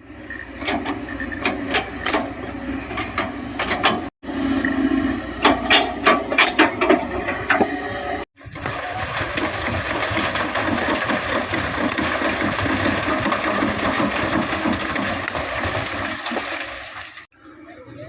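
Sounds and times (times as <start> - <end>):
excavator diesel engine rumbling: 0.0 - 16.1.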